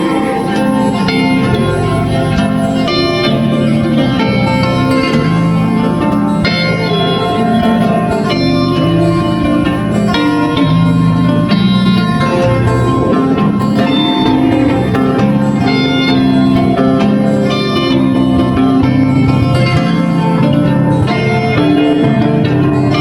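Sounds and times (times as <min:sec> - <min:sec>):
plucked guitar music: 0:00.0 - 0:23.0.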